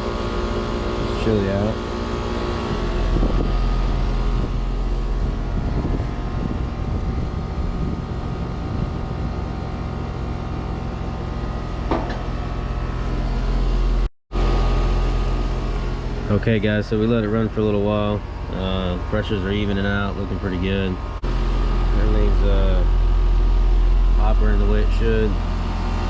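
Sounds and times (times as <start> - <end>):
heat pump humming: 0.0 - 26.0.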